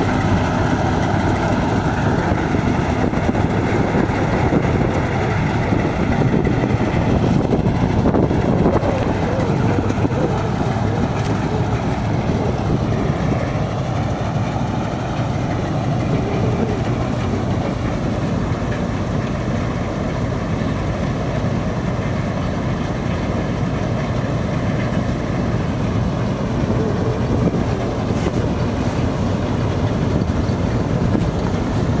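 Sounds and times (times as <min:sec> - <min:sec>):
combine harvester running: 0:00.0 - 0:32.0.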